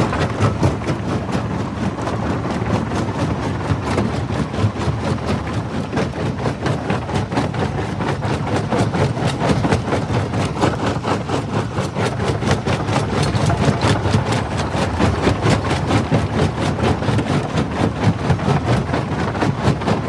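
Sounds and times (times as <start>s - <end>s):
rock crusher machine drone: 0.0s - 20.0s.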